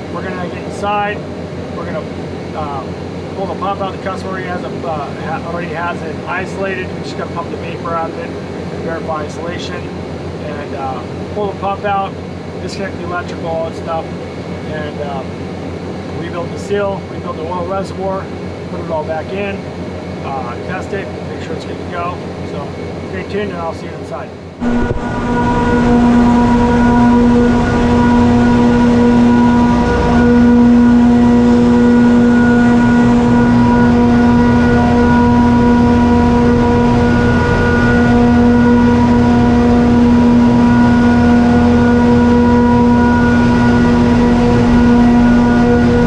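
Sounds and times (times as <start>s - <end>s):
refrigeration machinery drone: 0.0s - 46.0s
steady pitched whine: 0.0s - 46.0s.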